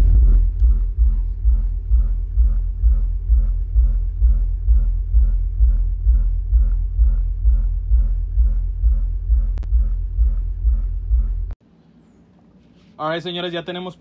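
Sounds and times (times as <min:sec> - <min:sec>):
deep subwoofer bass beat: 0:00.0 - 0:11.6.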